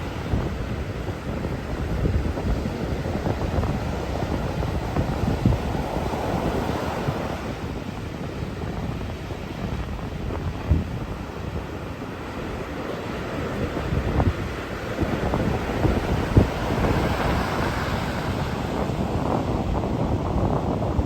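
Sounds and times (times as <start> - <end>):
heavy waves surging onto shore: 0.0 - 21.0
wind buffeting microphone: 0.0 - 21.0.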